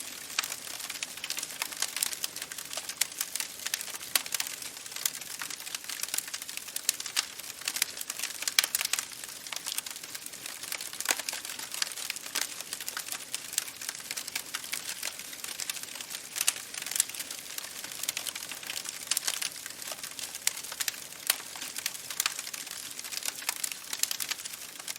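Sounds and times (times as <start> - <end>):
campfire crackling: 0.0 - 24.9.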